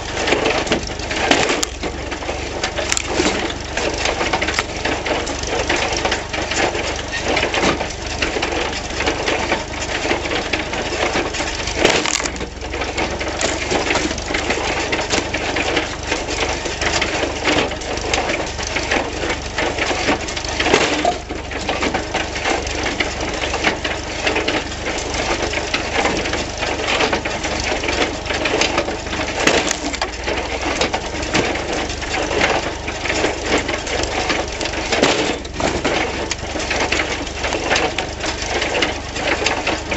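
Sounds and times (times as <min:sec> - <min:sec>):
log splitter clattering: 0:00.0 - 0:39.9
tractor engine running: 0:00.0 - 0:39.9.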